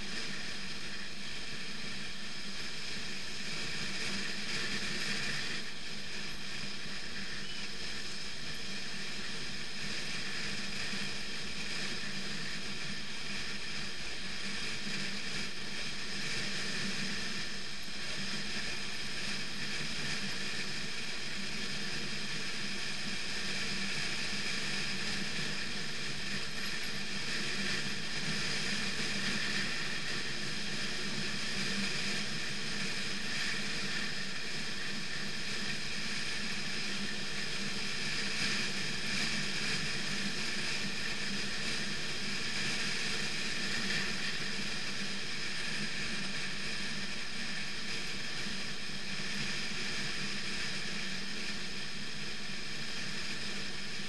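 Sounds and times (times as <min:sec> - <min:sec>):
road and wind noise: 0:00.0 - 0:54.0.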